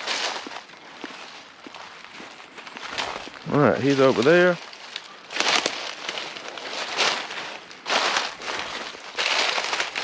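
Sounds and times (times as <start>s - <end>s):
footsteps crunching dry leaves: 0.0s - 10.0s.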